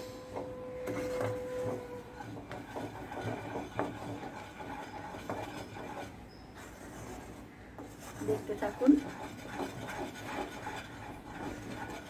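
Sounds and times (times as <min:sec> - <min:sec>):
wooden spatula scraping a pan: 0:00.0 - 0:12.0.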